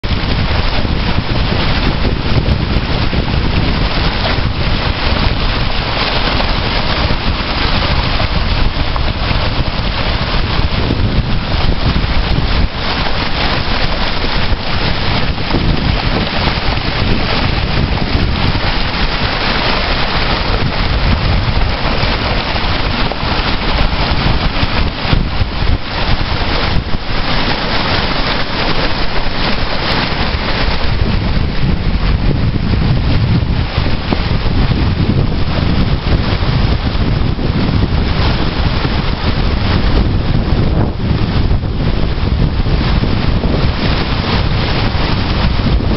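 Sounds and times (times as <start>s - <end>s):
stream rushing over stones: 0.0s - 45.9s
wind rumble on microphone: 0.0s - 45.9s.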